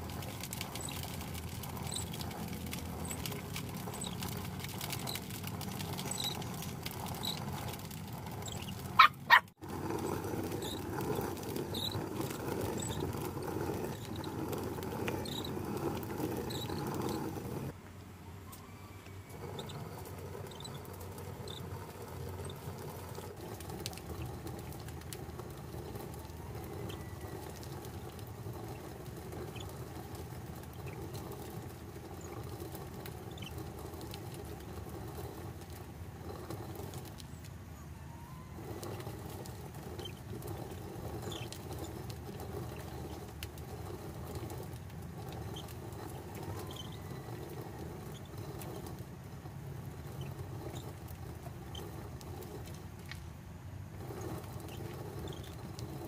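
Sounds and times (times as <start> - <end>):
stone quern grinding corn: 0.0 - 17.8, 18.7 - 56.0.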